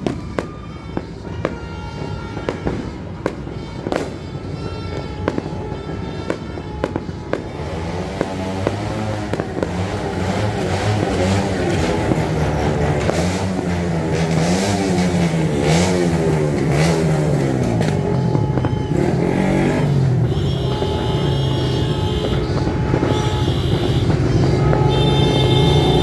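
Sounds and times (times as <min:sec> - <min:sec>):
motor vehicle engines revving: 0:02.3 - 0:04.2, 0:05.2 - 0:26.0.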